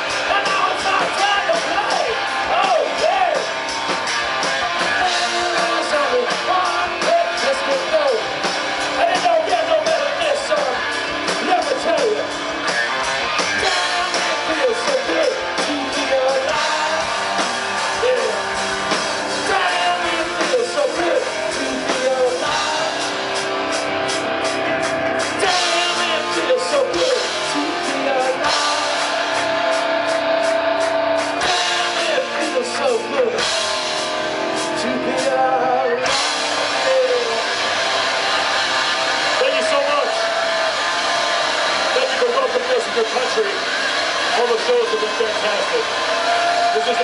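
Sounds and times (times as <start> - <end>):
rock band playing live: 0.0 - 47.0.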